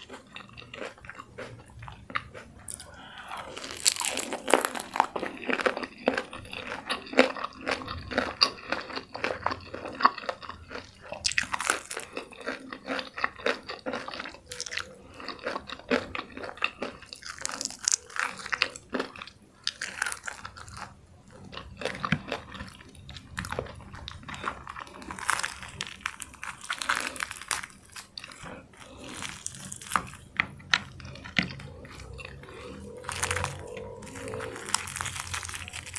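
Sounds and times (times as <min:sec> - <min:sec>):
crunchy bites and chewing: 0:00.0 - 0:35.9.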